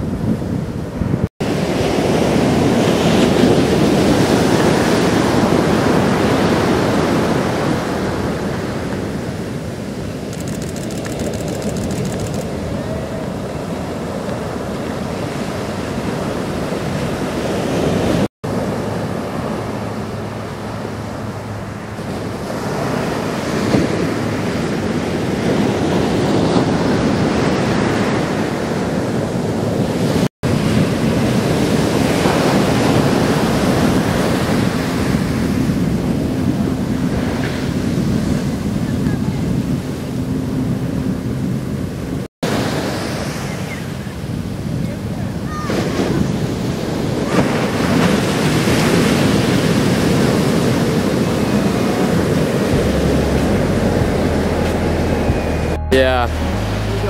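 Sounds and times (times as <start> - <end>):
surf crashing on beach: 0.0 - 57.0.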